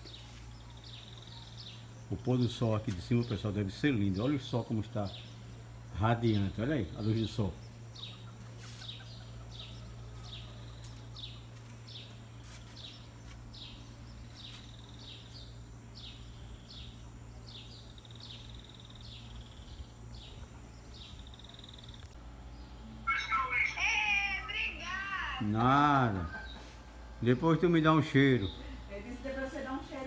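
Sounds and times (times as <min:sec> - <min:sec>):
bird chirping: 0:00.0 - 0:28.9
steady low hum: 0:00.0 - 0:30.0.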